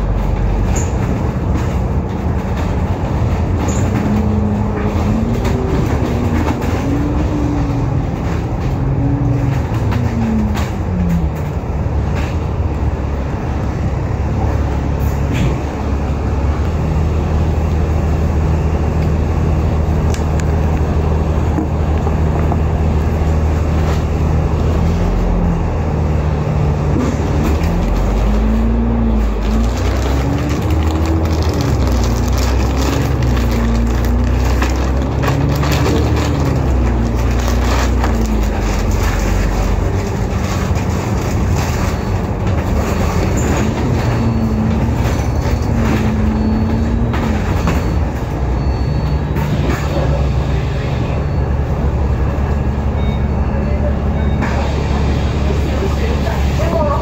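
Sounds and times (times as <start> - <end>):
drivetrain whine: 0.0 - 56.9
bus diesel drone: 0.0 - 57.0.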